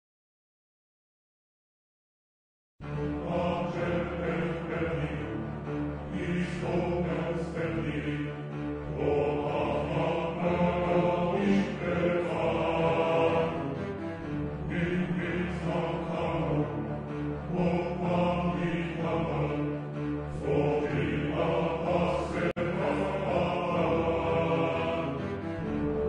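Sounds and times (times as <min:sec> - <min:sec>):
held orchestral chords: 0:02.8 - 0:26.0
low chanting voices: 0:02.8 - 0:26.0.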